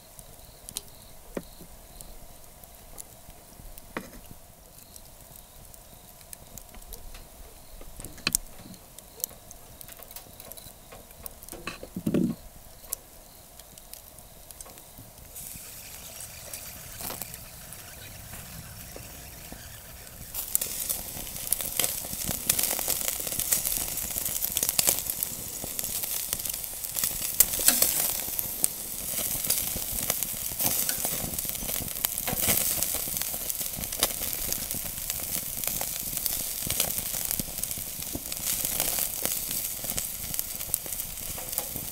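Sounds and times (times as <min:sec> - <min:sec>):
fire crackling and popping: 0:00.0 - 0:41.9
meat sizzling on a grill: 0:00.0 - 0:41.9.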